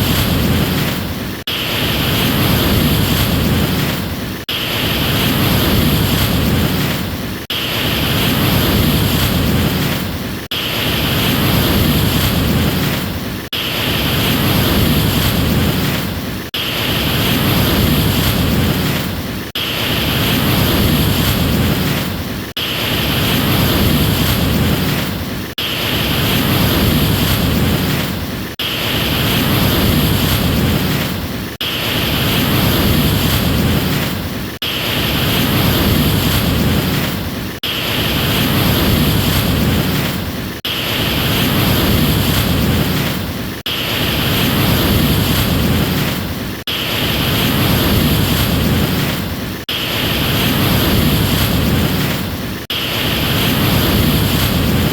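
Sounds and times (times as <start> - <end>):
ocean surf rushing: 0.0 - 54.9.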